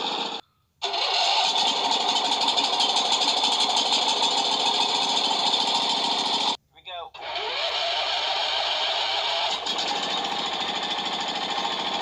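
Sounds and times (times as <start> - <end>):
lawn tractor engine running: 0.0 - 6.6, 7.2 - 12.0.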